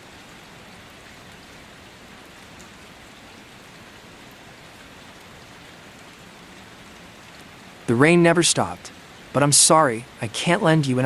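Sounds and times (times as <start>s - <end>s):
rain falling on a surface: 0.0s - 11.0s.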